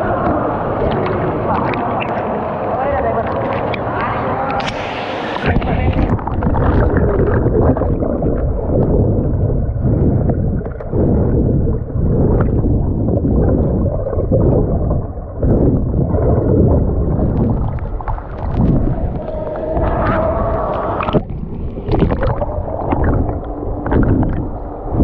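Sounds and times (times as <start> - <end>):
underwater rushing and gurgling: 0.0 - 25.0.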